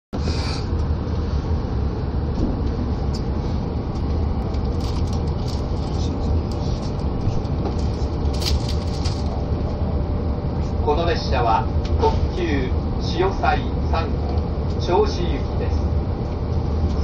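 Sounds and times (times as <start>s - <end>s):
train cabin low rumble: 0.1s - 17.0s.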